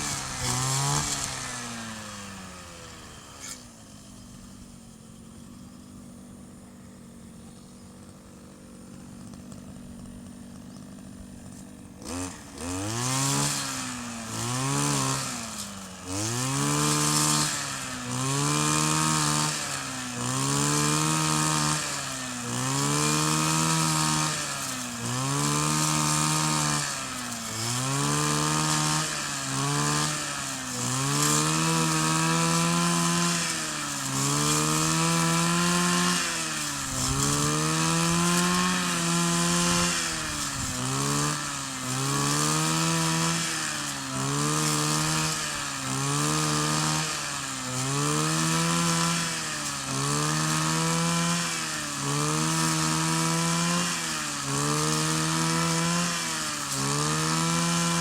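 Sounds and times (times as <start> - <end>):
brush cutter engine revving: 0.0 - 58.0.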